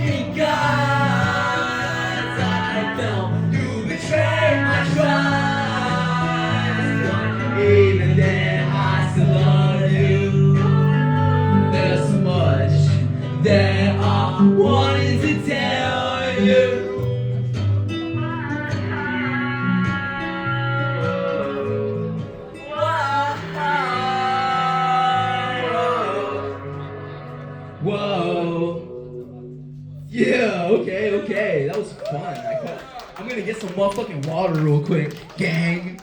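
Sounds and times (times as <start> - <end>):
man singing: 0.0 - 17.3, 17.9 - 31.3
guitar backing track: 0.0 - 31.6.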